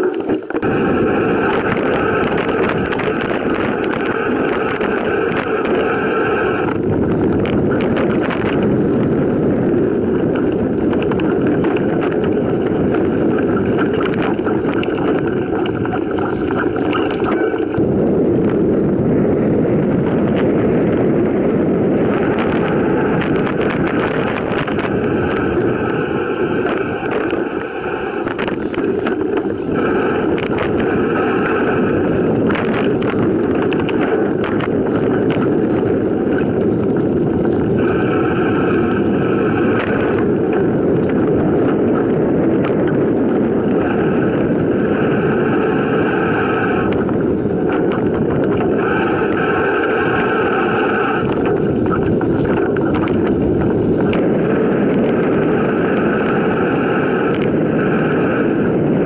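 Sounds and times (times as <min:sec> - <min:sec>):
bike rattling over bumps: 0:00.0 - 0:59.0
bike tyres rumbling over dirt: 0:00.0 - 0:59.0.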